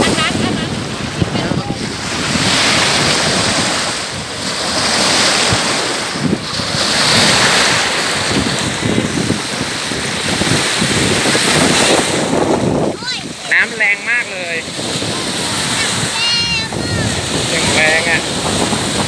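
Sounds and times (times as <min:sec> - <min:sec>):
small waves breaking in surf: 0:00.0 - 0:19.0
wind buffeting microphone: 0:00.0 - 0:19.0.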